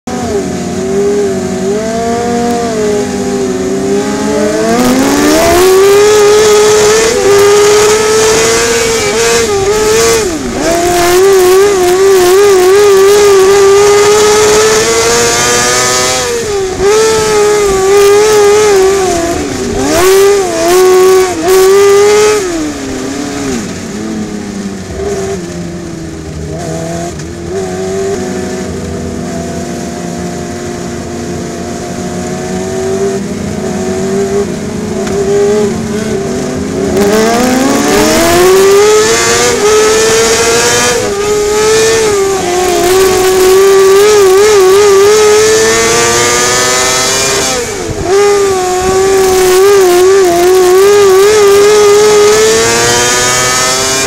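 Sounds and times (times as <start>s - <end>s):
racing car engine revving: 0.1s - 54.0s.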